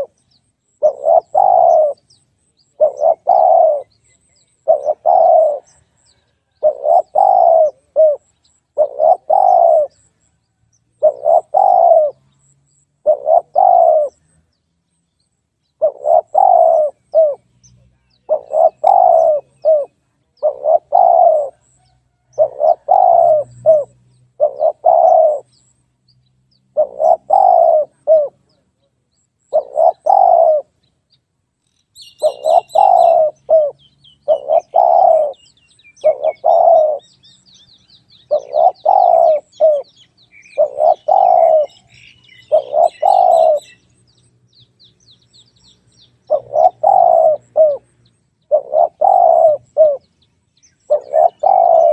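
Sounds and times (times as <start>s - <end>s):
dove cooing: 0.0s - 0.2s, 0.8s - 10.2s, 11.0s - 14.4s, 15.8s - 17.5s, 18.2s - 25.6s, 26.7s - 28.7s, 29.5s - 30.8s, 32.0s - 43.8s, 46.2s - 50.1s, 50.9s - 51.9s
small birds chirping: 0.0s - 51.9s.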